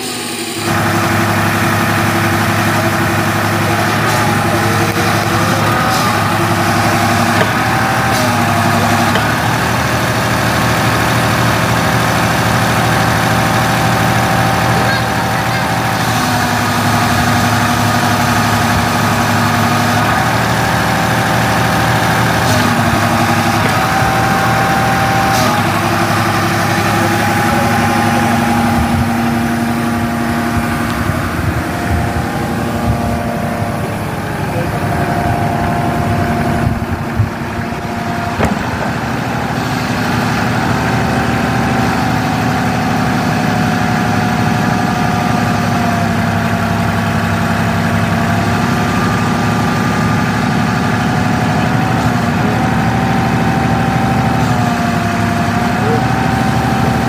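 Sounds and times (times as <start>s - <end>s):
diesel engine running: 0.0s - 57.0s
hydraulic whine: 0.0s - 57.0s.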